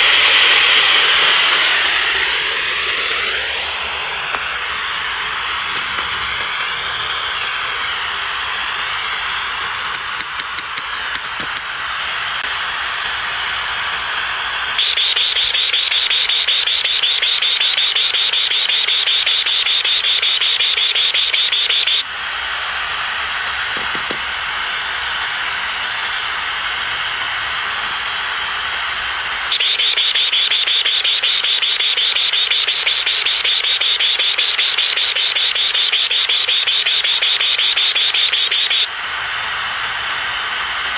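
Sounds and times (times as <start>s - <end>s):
high rapidly pulsing buzz: 0.0s - 40.9s
radio static hiss: 0.0s - 40.9s.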